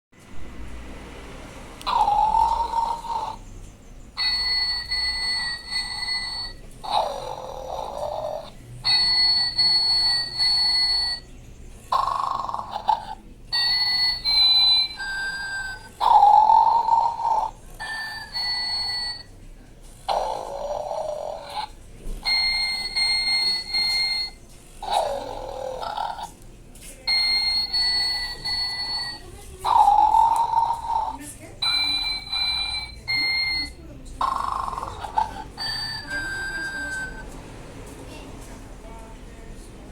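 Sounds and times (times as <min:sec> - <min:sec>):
electronic snoring toy: 0:01.8 - 0:03.4, 0:04.1 - 0:26.4, 0:27.0 - 0:37.3.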